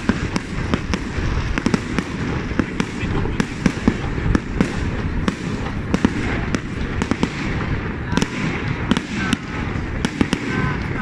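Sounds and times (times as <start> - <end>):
low rumble of explosions: 0.0 - 11.0
sharp firework bangs: 0.0 - 11.0.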